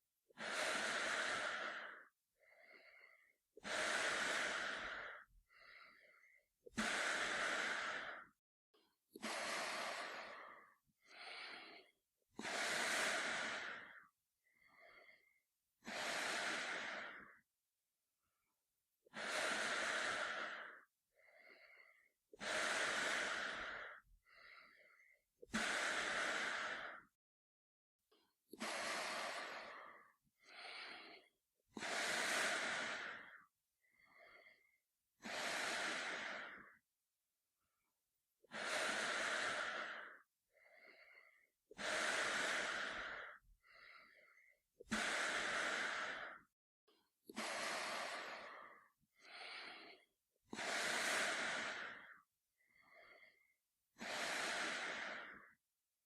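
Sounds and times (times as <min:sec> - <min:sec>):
man breathing through gas mask: 0:00.3 - 0:08.4, 0:09.2 - 0:17.4, 0:19.1 - 0:27.2, 0:28.6 - 0:36.8, 0:38.4 - 0:46.5, 0:47.3 - 0:55.6.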